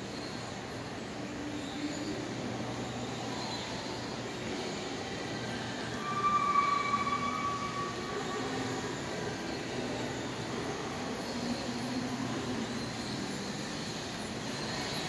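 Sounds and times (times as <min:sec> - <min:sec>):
high squeal: 0:01.6 - 0:15.0.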